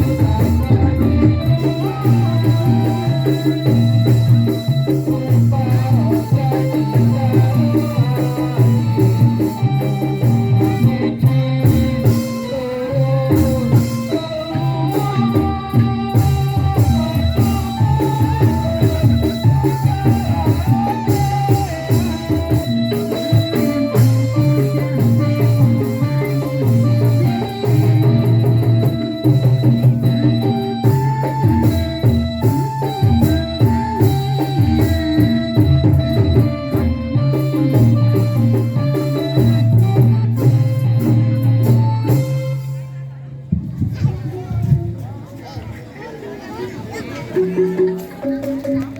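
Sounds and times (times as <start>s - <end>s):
keyboard melody: 0.0s - 43.5s
steady drum beat: 0.0s - 45.0s.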